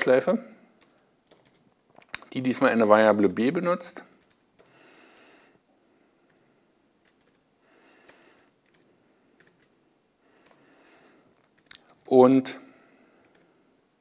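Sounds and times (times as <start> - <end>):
room hiss: 0.0 - 14.0.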